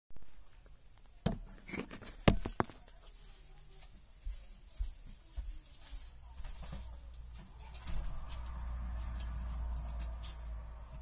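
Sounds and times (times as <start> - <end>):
soft footsteps: 2.1 - 11.0.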